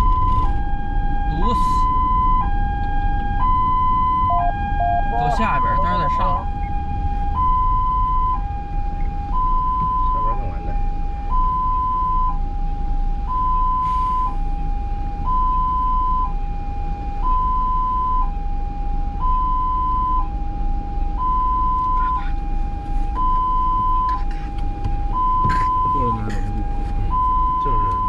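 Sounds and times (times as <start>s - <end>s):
two-tone ambulance siren: 0.0s - 28.0s
vehicle rumble on road: 0.0s - 28.0s.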